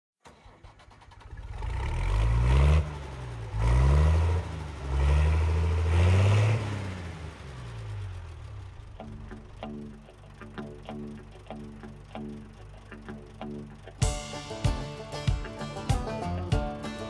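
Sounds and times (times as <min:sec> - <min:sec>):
engine revving: 0:00.2 - 0:17.0.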